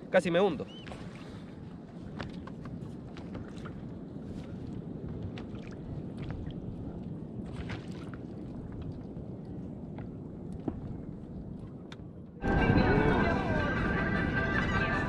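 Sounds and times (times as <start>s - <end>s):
water and wind noise: 0.0s - 15.0s.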